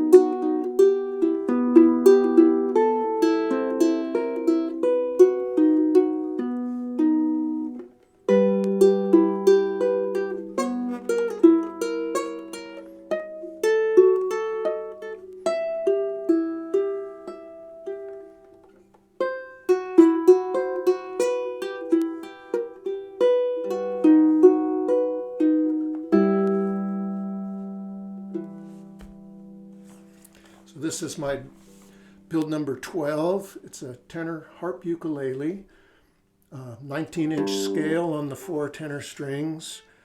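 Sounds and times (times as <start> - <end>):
harp ukulele plucked melody: 0.0 - 33.4, 37.1 - 39.6.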